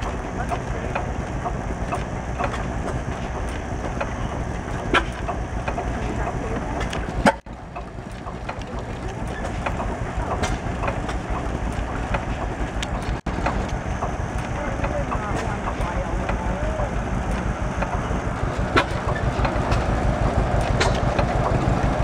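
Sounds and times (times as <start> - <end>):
stationary gas engine running: 0.0 - 22.0
valve gear clicking and clatter: 0.0 - 22.0.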